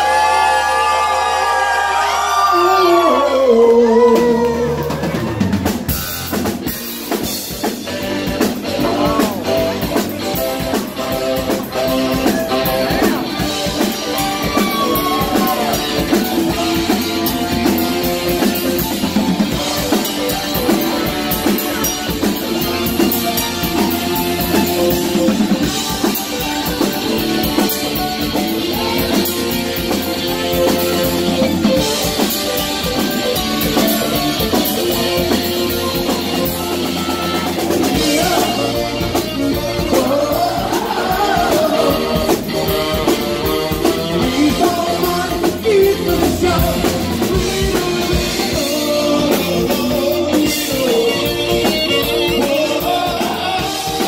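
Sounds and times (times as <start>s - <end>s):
live band playing: 0.0s - 54.0s
saxophone melody: 7.8s - 54.0s.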